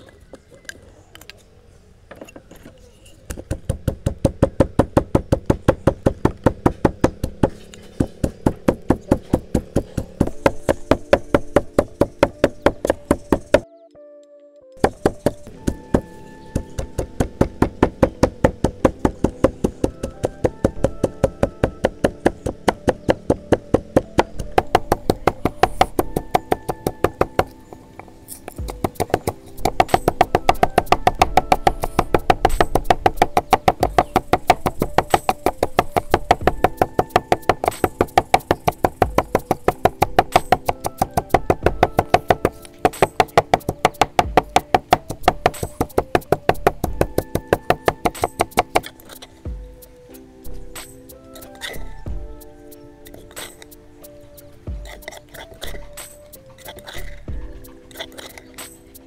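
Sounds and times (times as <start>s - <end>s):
background music with knocking beat: 3.3s - 14.0s, 14.7s - 59.0s.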